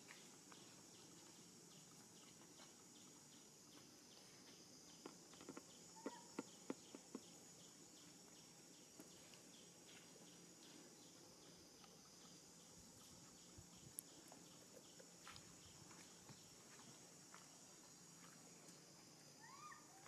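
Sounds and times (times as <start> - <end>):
faint insects buzzing: 0.0 - 20.0.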